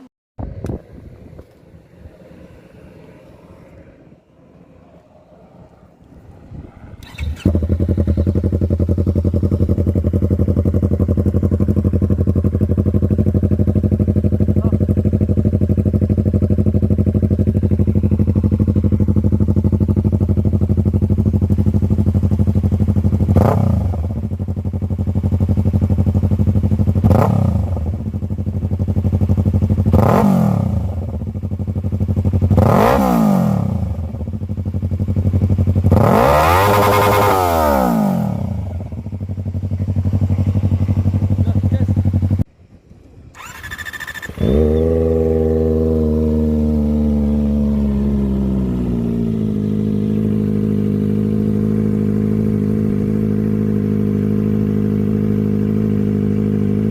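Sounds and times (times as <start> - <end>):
motorcycle engine idling and revving: 0.0 - 56.9.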